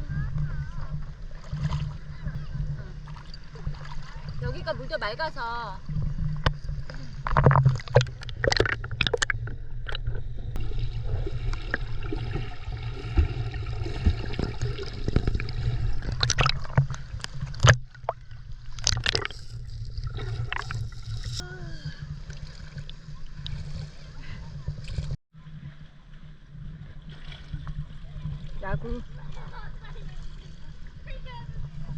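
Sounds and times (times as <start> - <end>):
steady low rumble: 0.0 - 31.9
water splashing and sloshing: 0.0 - 31.9.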